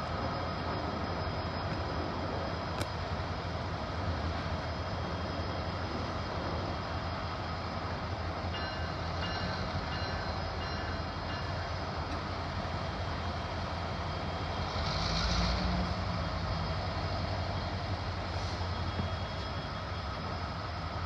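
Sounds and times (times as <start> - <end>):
diesel locomotive idling drone: 0.0 - 21.0.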